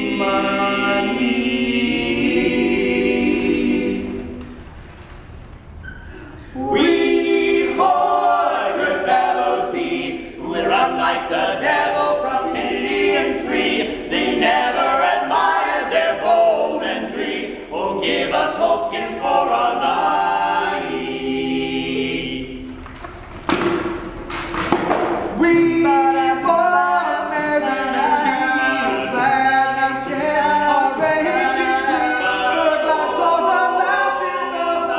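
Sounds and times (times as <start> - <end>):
men singing a cappella harmony: 0.0 - 4.2, 6.5 - 22.6, 25.4 - 34.9.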